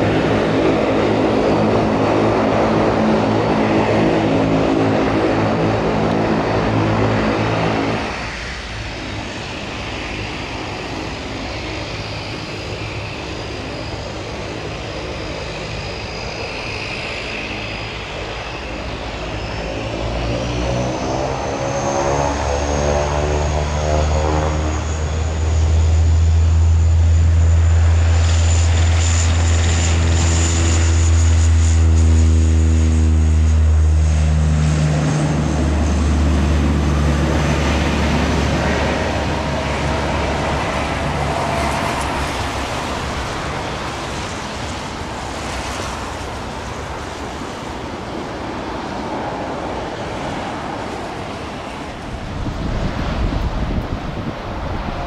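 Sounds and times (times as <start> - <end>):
propeller engines spooling up: 0.0 - 55.0
turboprop propeller drone: 0.0 - 55.0.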